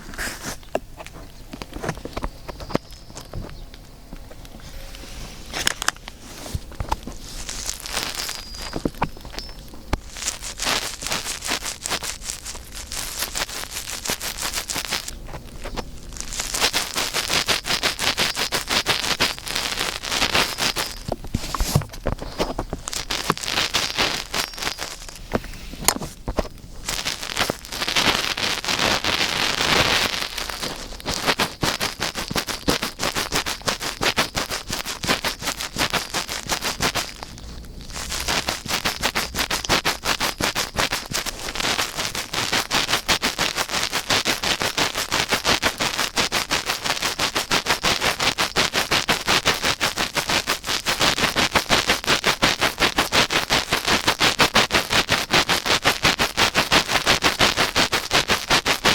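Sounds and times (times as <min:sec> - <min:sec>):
scratching on binaural microphone: 0:00.0 - 0:58.9.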